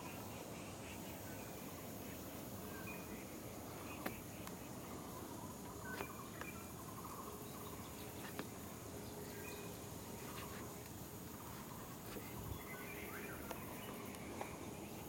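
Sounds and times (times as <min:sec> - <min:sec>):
high insect hum: 0:00.0 - 0:15.0.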